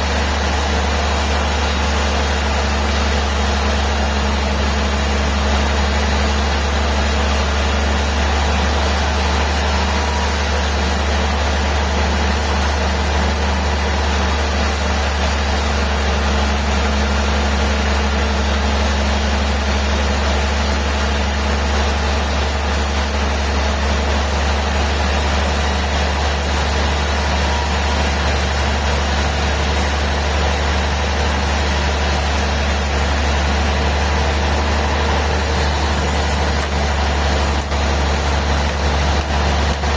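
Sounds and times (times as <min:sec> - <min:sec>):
heavy engine droning: 0:00.0 - 0:39.9.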